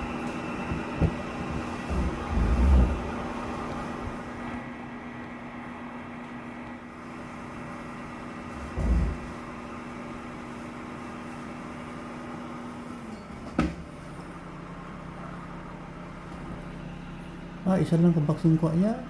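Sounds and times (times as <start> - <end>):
garbage truck engine humming: 0.0 - 19.0.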